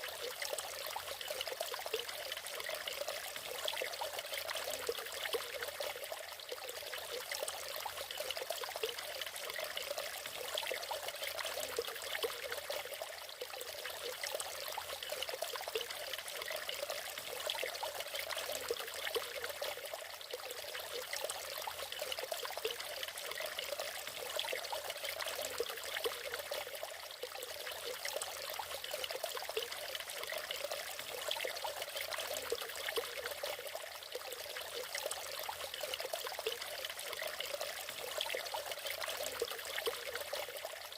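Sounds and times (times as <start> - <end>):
waterfall splashing and trickling: 0.0 - 40.9.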